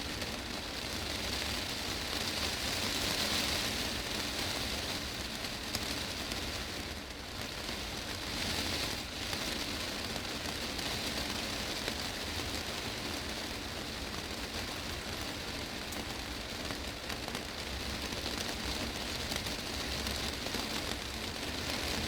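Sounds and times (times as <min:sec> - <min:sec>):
heavy rain on glass roof: 0:00.0 - 0:22.0.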